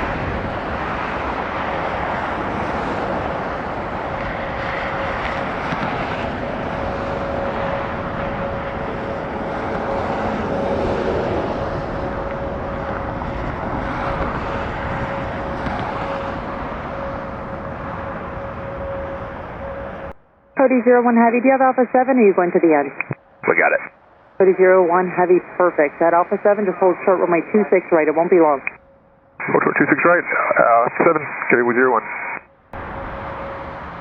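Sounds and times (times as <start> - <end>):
jet engines roaring: 0.0 - 28.8, 29.4 - 34.0.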